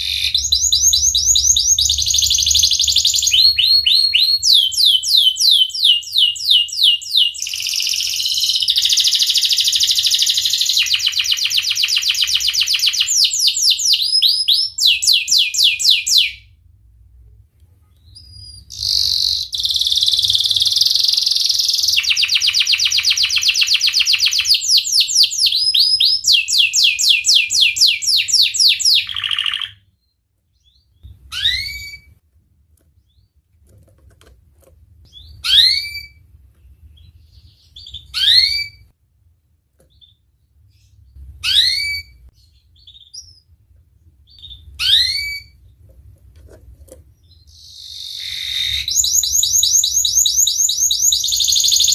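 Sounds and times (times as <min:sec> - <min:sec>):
canary singing trills: 0:00.0 - 0:16.4, 0:18.0 - 0:32.2, 0:35.1 - 0:38.9, 0:39.9 - 0:43.5, 0:44.3 - 0:45.7, 0:47.2 - 0:51.9.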